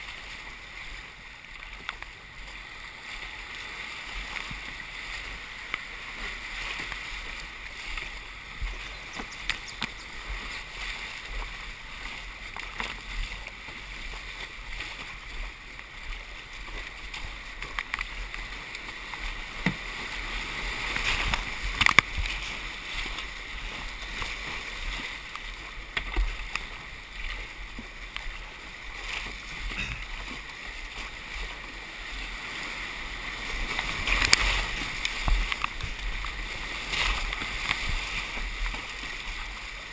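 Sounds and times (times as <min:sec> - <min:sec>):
paddle strokes and splashes: 0:00.0 - 0:39.9
rushing whitewater: 0:00.0 - 0:39.9.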